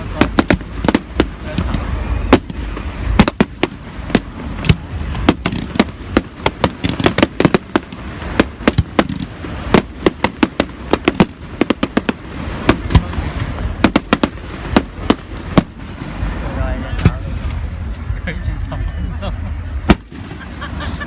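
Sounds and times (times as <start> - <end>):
fireworks cracks and bangs: 0.0 - 18.6, 19.8 - 21.0
rumble of distant fireworks bursts: 0.0 - 21.0.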